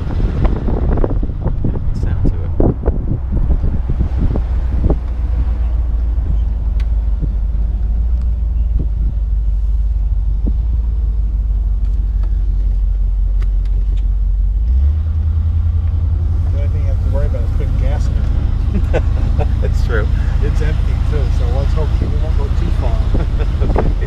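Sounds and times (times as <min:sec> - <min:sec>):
wind buffeting: 0:00.0 - 0:12.7, 0:16.0 - 0:24.0
car engine rumble: 0:00.0 - 0:24.0
road noise: 0:00.0 - 0:24.0.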